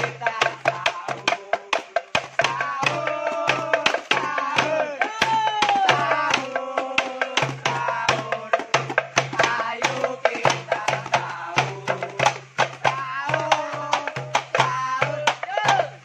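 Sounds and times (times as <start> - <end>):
hand drums beat: 0.0 - 16.0.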